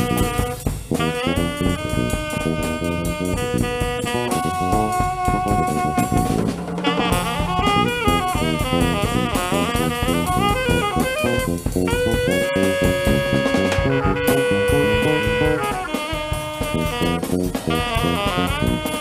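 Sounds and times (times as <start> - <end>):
drums: 0.0 - 19.0
lead melody instrument: 0.0 - 19.0.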